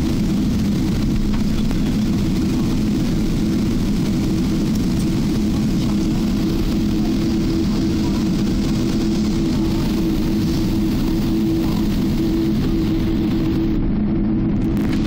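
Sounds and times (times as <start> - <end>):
aircraft cabin engine drone: 0.0 - 15.0.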